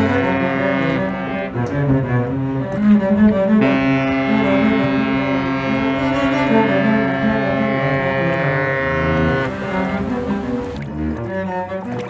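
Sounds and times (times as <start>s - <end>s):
cello playing: 0.0s - 12.0s
ship's horn: 0.0s - 12.0s.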